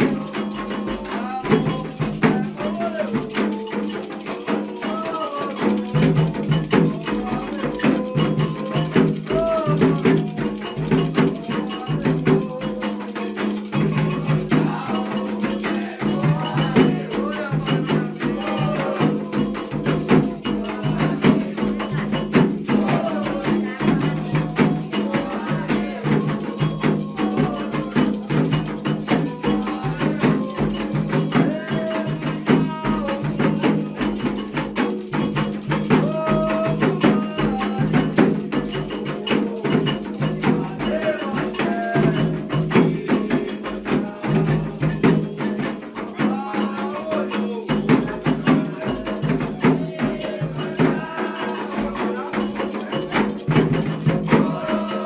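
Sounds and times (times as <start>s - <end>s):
drums: 0.0s - 55.0s
sharp struck percussion: 0.0s - 55.0s
voices singing a chant: 0.0s - 55.0s.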